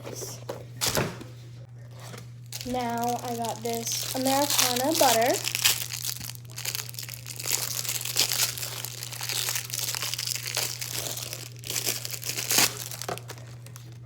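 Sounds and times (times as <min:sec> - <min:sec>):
plastic packaging crinkling: 0:02.4 - 0:14.0.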